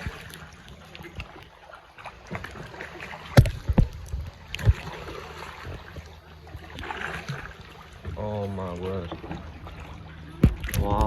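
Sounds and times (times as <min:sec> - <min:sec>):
kayak paddling water: 0:00.0 - 0:11.0.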